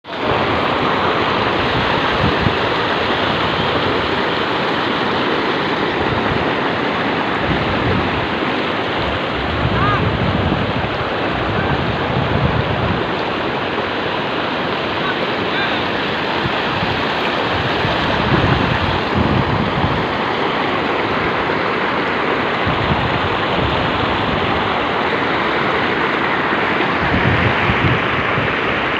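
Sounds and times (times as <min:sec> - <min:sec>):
floodwater pouring over a fall: 0:00.1 - 0:28.9.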